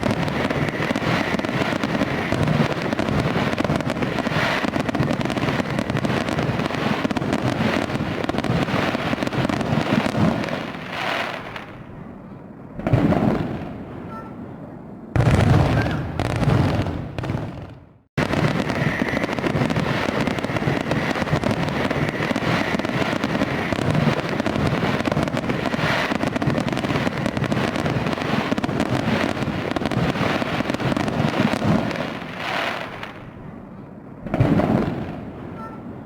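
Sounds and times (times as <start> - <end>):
fireworks crackling: 0.0 - 11.9, 12.8 - 14.1, 15.2 - 33.4, 34.2 - 36.0.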